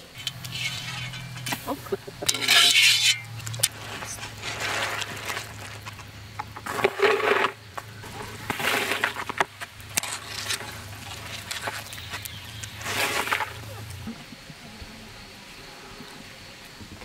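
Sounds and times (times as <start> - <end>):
strainer splashing and scraping: 0.0 - 13.7.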